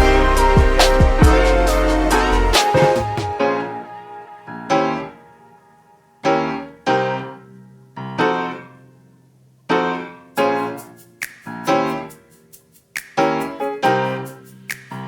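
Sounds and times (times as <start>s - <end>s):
slow piano chords: 0.0s - 12.5s.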